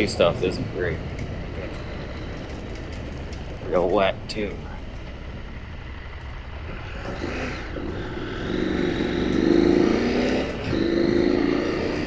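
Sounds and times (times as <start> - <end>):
motorcycle engine accelerating: 0.0 - 12.0
wind and road noise: 0.0 - 12.0.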